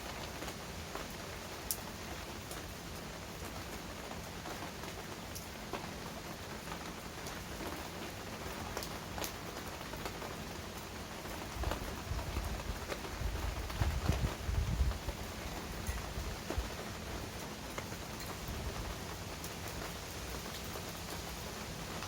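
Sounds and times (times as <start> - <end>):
rain on hard surfaces: 0.0 - 22.0
sharp drips and splats: 0.0 - 22.0.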